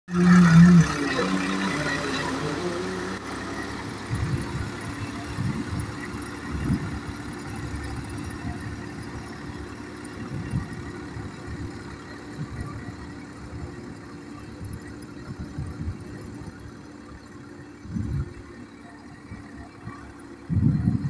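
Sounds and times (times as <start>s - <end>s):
tractor diesel engine droning: 0.1s - 21.0s.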